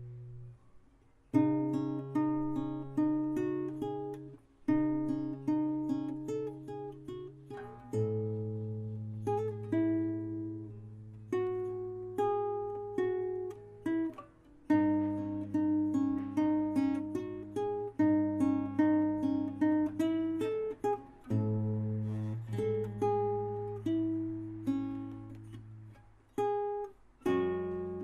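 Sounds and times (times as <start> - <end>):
acoustic guitar melody: 0.0 - 28.0.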